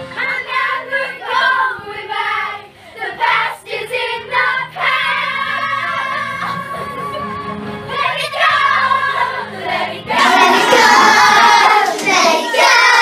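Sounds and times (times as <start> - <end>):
girls singing together: 0.0 - 13.0.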